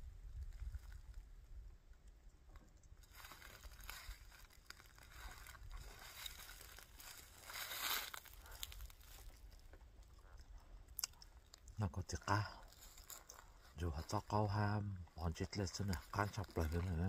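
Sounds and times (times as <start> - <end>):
rustling and crinkling: 0.2 - 17.0.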